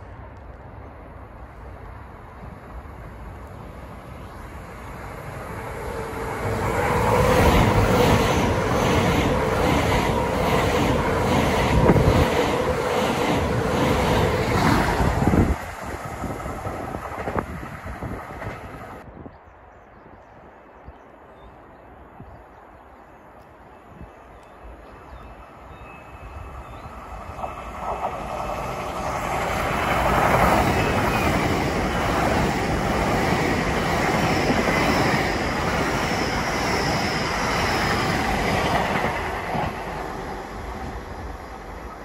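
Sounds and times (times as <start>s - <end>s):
passenger train passing at speed: 0.0s - 42.0s.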